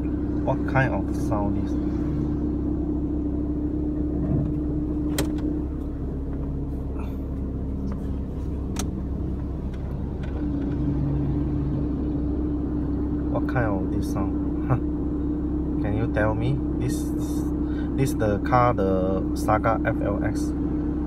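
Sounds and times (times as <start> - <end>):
car engine idling hum: 0.0 - 21.0.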